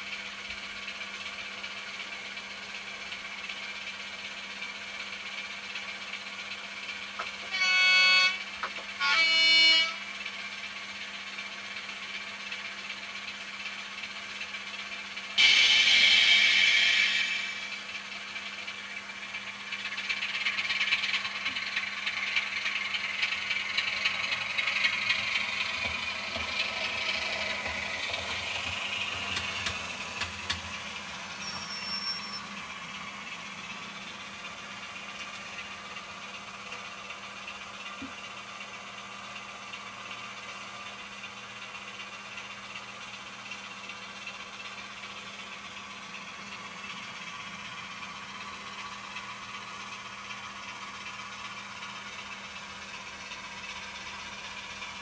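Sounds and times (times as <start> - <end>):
diesel engine through small speakers: 0.0 - 55.0.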